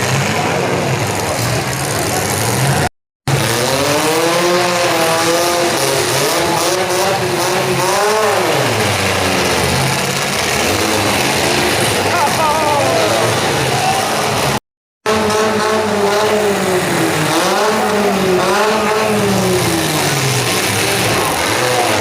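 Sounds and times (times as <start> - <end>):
car engines revving loudly: 0.0 - 22.0.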